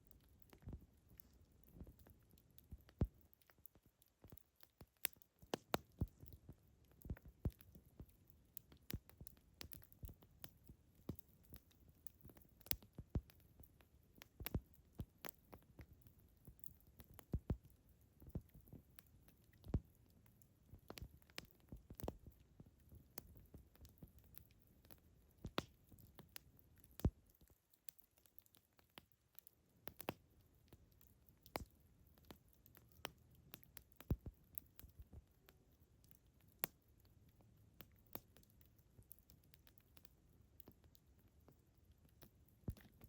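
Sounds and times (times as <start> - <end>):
campfire crackling and popping: 0.1 - 43.0.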